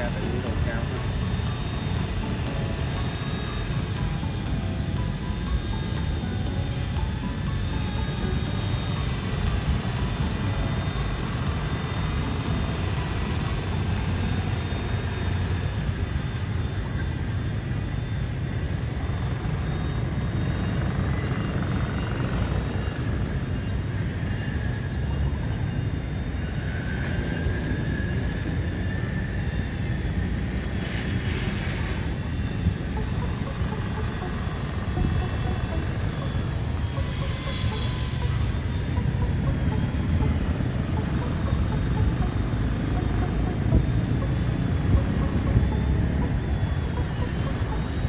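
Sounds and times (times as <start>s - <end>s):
toy helicopter rotor whine: 0.0s - 48.0s.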